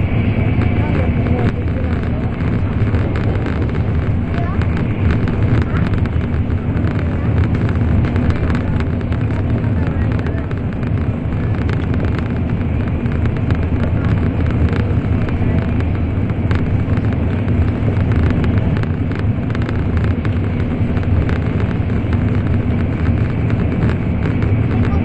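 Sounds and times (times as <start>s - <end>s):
rapid clicks and rattles: 0.0s - 25.0s
train wheels rumbling on rail: 0.0s - 25.0s.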